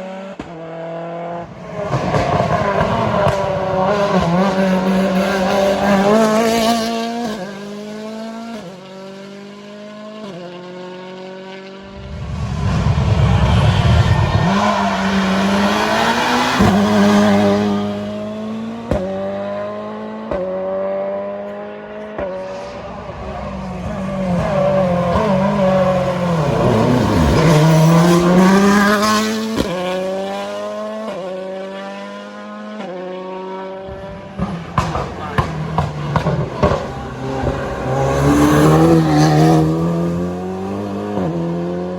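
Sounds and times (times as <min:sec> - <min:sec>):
rally car engine at full throttle: 0:00.0 - 0:41.9.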